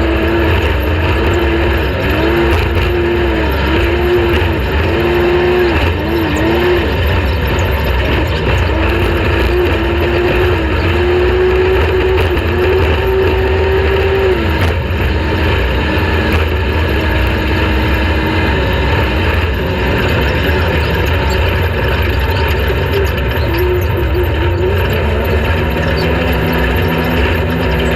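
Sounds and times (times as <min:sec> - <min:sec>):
race vehicle engine revving: 0:00.0 - 0:27.9.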